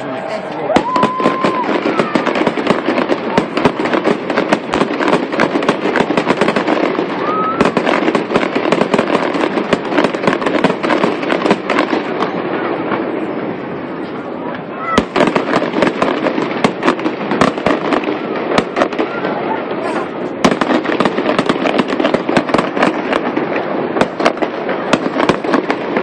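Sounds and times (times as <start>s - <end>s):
fireworks crackles and bangs: 0.0s - 26.0s.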